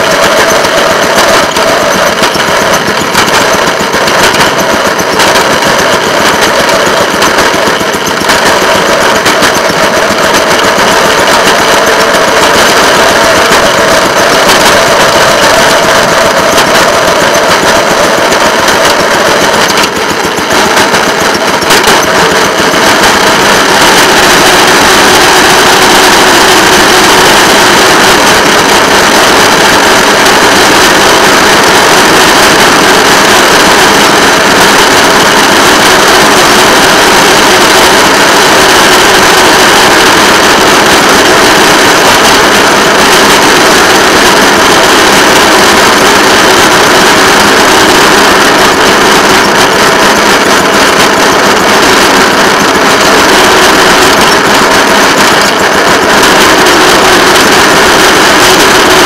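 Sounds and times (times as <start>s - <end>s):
rail motor car engine running: 0.0s - 59.0s.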